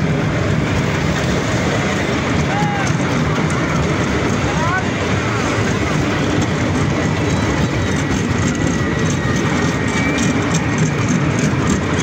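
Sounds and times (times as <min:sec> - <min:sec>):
miniature train running on track: 0:00.0 - 0:12.0.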